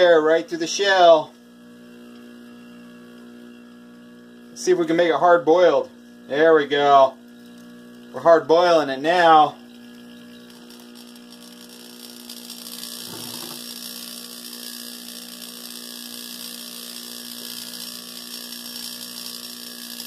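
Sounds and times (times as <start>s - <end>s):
compressor humming: 0.0s - 20.0s.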